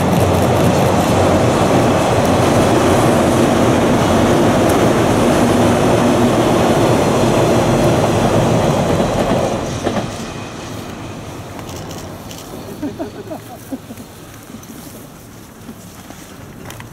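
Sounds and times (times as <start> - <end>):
train wheels rumbling on bridge: 0.0 - 16.9.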